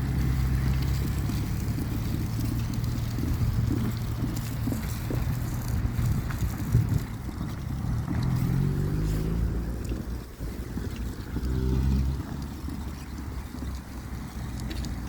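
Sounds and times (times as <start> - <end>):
low engine rumble: 0.0 - 15.0
wind buffeting microphone: 0.0 - 15.0.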